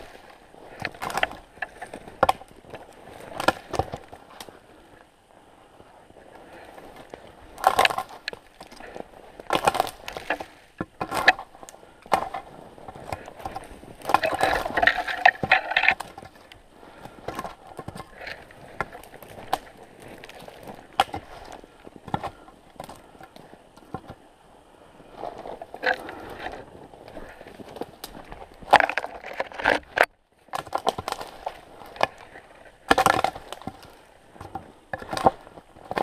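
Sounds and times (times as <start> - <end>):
twigs snapping: 0.0 - 4.6, 6.4 - 24.2, 25.2 - 36.0.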